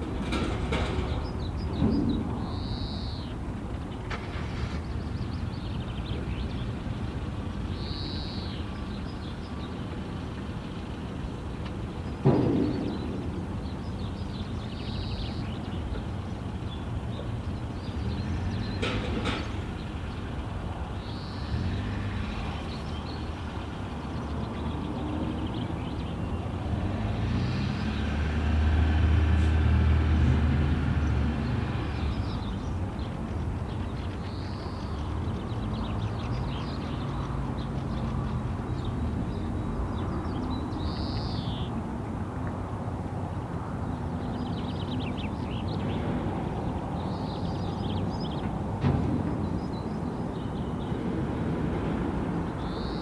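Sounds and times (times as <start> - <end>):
birds chirping: 0.0 - 28.5, 29.8 - 53.0.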